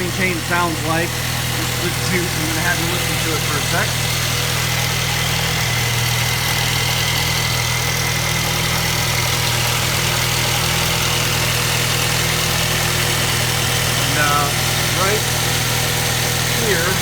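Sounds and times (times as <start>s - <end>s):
car engine idling with rattle: 0.0s - 17.0s.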